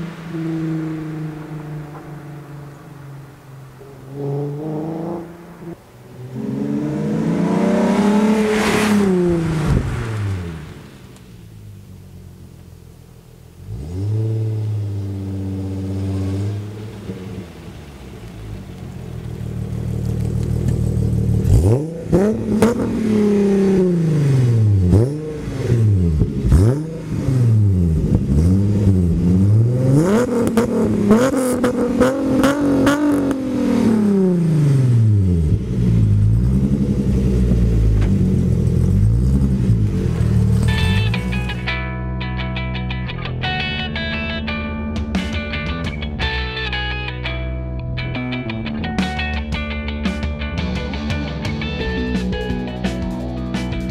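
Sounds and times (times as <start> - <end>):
car engine revving: 0.0 - 46.4.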